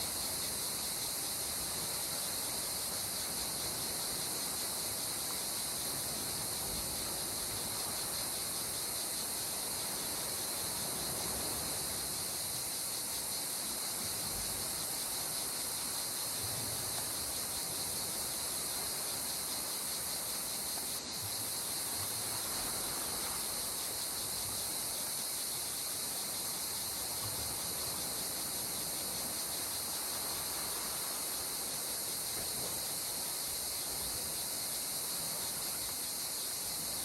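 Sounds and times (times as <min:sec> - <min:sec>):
gentle sea water hiss: 0:00.0 - 0:37.0
insects chorus: 0:00.0 - 0:37.0.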